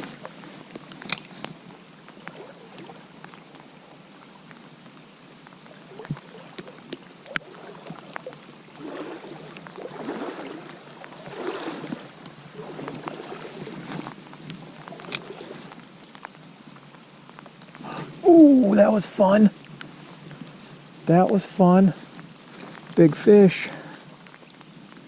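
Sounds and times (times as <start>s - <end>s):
creek water running: 0.0s - 25.0s
water splashing: 0.0s - 25.0s.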